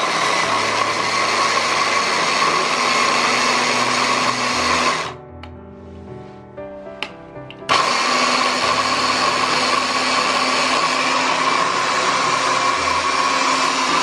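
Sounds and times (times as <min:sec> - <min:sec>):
hand blender motor whirring: 0:00.0 - 0:05.2, 0:07.7 - 0:14.0.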